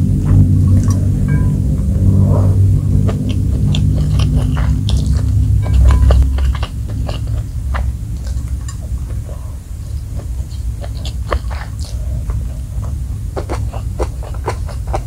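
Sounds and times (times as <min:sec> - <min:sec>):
loud low rumble: 0:00.0 - 0:13.9
wet chewing and mouth clicks: 0:00.6 - 0:01.9, 0:02.9 - 0:15.0.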